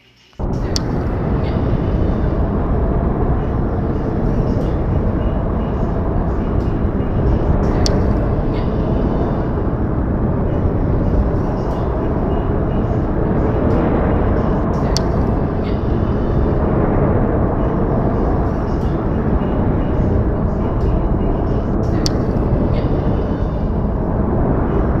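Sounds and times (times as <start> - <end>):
low rushing rumble: 0.4 - 25.0.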